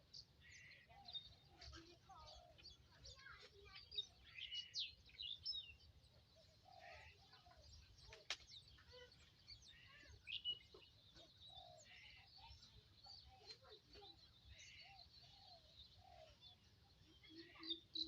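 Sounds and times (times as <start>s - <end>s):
birds chirping faintly: 0.0s - 18.0s.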